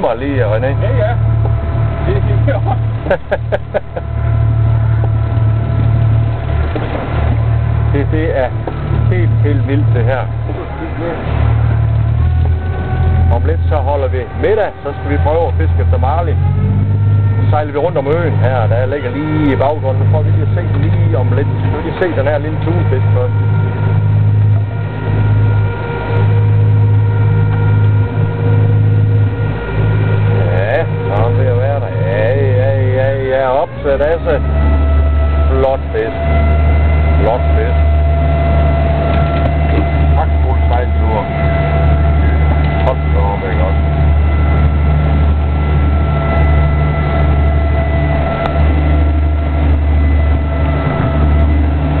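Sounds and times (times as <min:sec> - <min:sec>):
boat engine droning: 0:00.0 - 0:52.0
faint high whine: 0:00.0 - 0:52.0.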